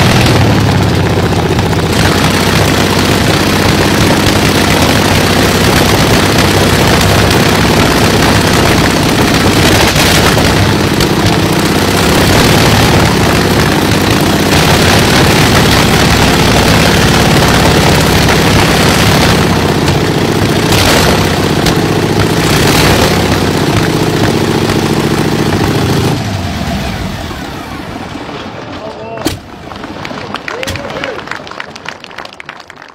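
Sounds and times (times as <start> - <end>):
radial aircraft engine idling: 0.0 - 29.9.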